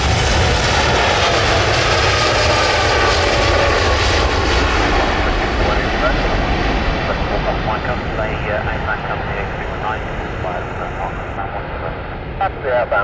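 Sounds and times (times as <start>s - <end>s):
faint engine whine: 0.0s - 13.0s
jet engine rumble: 0.0s - 13.0s.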